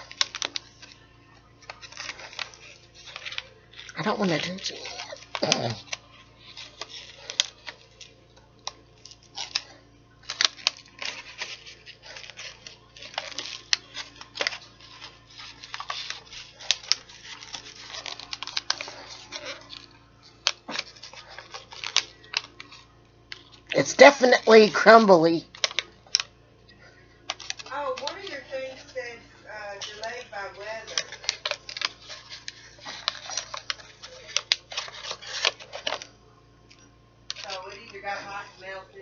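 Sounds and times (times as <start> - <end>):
wrapper crinkling: 0.0 - 39.0.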